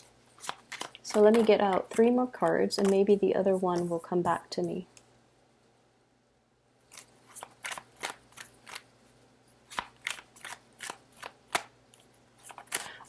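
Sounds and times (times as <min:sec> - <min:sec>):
cards being shuffled: 0:00.0 - 0:04.8, 0:06.9 - 0:13.0.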